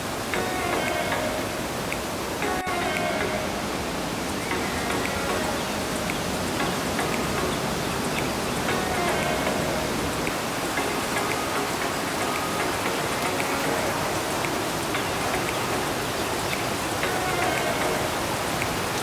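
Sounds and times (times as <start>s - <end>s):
river rushing in gorge: 0.0s - 19.0s
water falling from rock walls: 0.0s - 19.0s.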